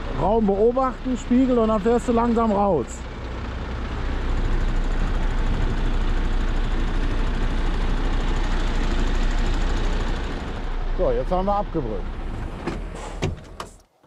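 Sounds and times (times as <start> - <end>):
truck diesel engine pulling away: 0.0 - 13.8.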